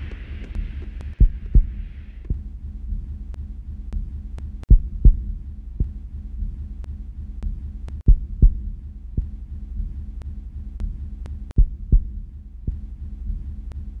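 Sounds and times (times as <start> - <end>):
deep double thumps: 0.0 - 13.5
steady low hum: 0.0 - 14.0.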